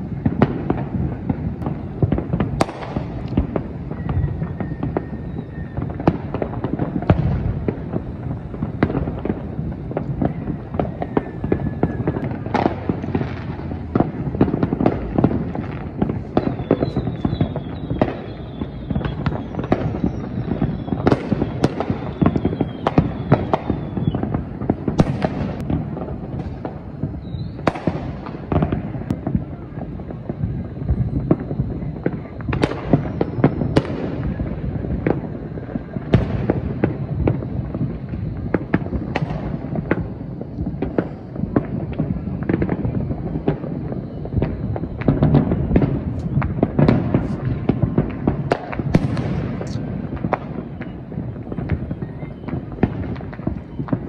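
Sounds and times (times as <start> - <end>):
fireworks bangs and booms: 0.0 - 54.0
whistling fireworks: 0.0 - 54.0.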